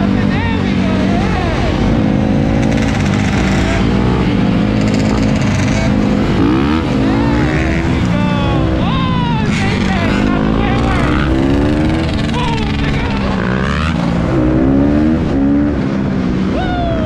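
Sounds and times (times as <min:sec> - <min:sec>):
motorbike engines running: 0:00.0 - 0:17.0
motorbike revving: 0:00.0 - 0:17.0.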